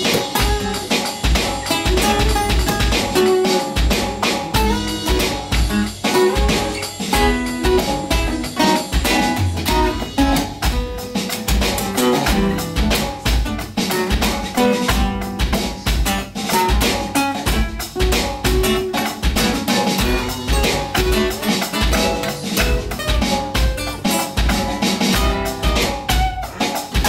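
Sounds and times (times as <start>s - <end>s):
acoustic guitars strumming: 0.0s - 27.0s
drum kit beat: 0.0s - 27.0s.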